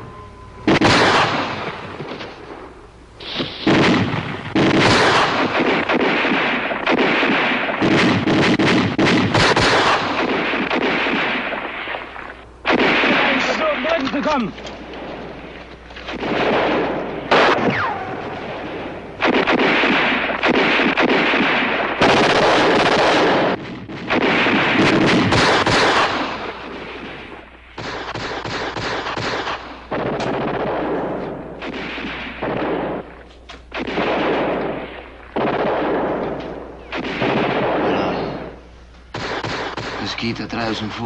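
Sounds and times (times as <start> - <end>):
rifle and machine-gun fire: 0.7 - 40.8.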